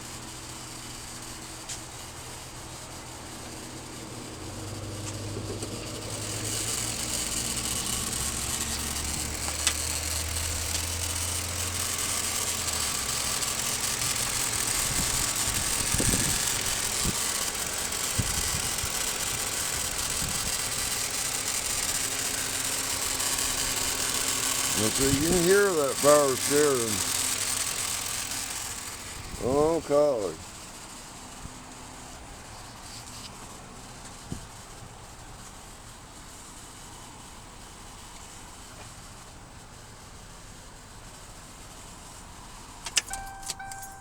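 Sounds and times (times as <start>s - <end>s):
car engine idling: 0.0s - 32.8s, 33.4s - 44.0s
power steering pump noise: 0.3s - 44.0s.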